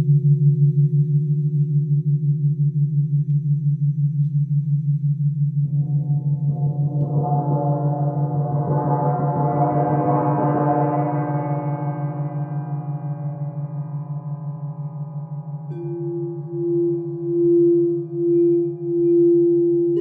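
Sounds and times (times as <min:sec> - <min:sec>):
pulsing low drone: 0:00.0 - 0:20.0.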